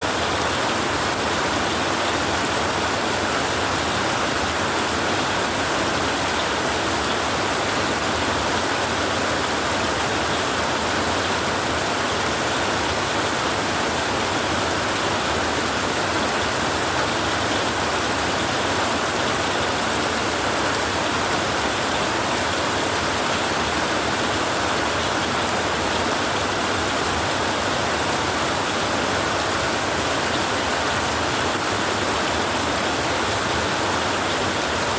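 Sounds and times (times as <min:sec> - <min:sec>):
heavy rain on a tin roof: 0:00.0 - 0:34.9.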